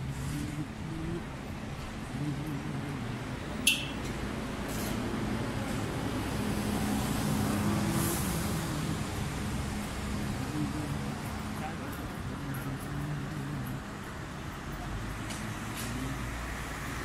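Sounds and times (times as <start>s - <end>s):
street traffic: 0.0s - 17.0s
vehicle going by: 0.0s - 17.0s.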